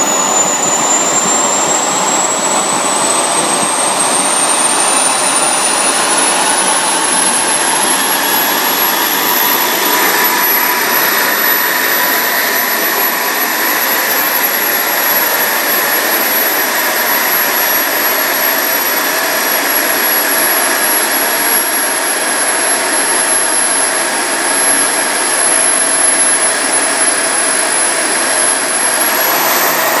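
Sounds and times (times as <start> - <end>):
high turbine whine: 0.0 - 30.0
turboprop engines running: 0.0 - 30.0.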